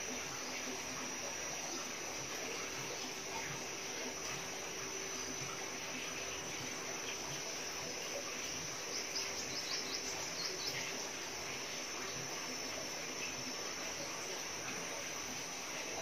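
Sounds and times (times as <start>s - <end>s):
background hiss: 0.0s - 16.0s
insect trill: 0.0s - 16.0s.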